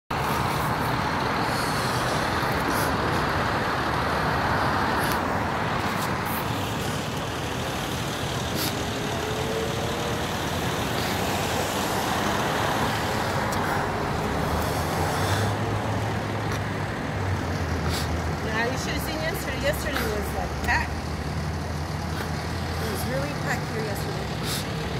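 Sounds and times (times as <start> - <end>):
street traffic: 0.1 - 24.9.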